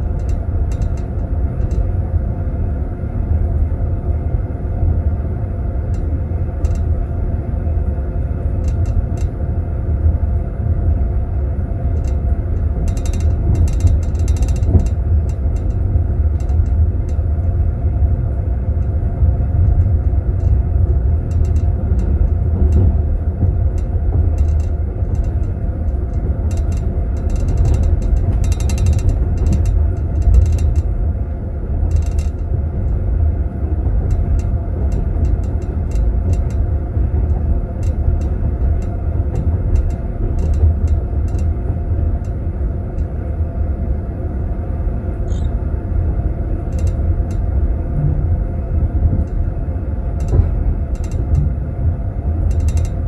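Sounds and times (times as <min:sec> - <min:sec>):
train carriage rumble: 0:00.0 - 0:53.0.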